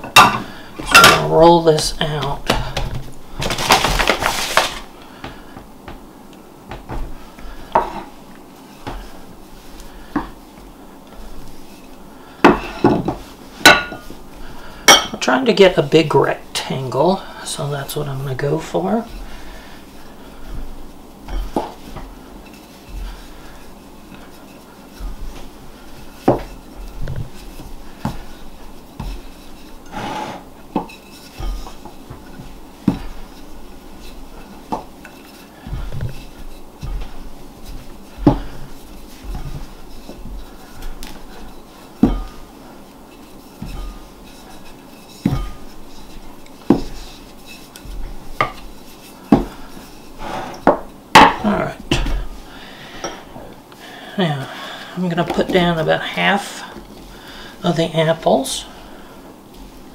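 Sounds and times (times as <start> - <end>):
rolling pin rolling dough: 0.0 - 53.7, 54.4 - 59.9.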